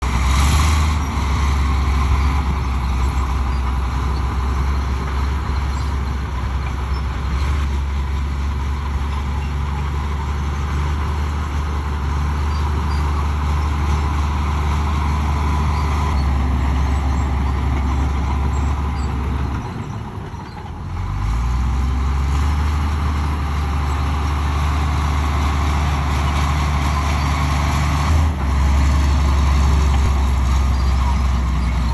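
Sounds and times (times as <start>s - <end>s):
bulldozer diesel engine droning: 0.0s - 31.9s.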